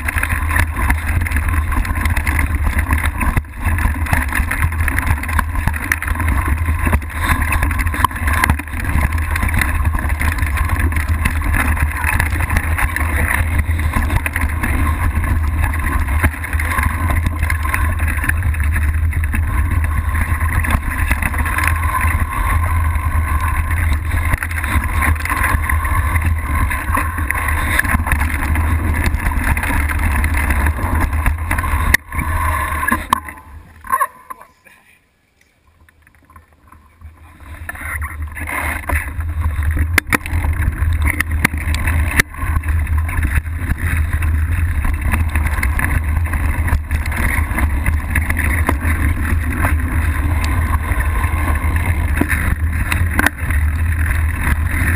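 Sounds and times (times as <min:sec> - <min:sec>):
tyre rolling over dirt: 0:00.0 - 0:34.2, 0:37.1 - 0:54.9.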